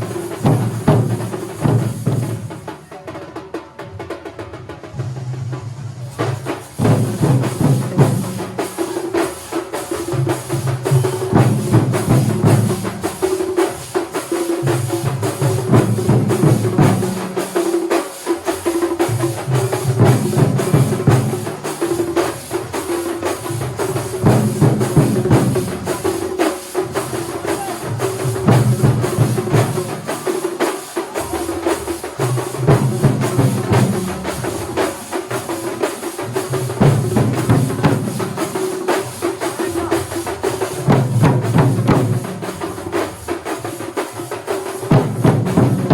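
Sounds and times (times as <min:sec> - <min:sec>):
percussion ensemble drumming: 0:00.0 - 0:45.9.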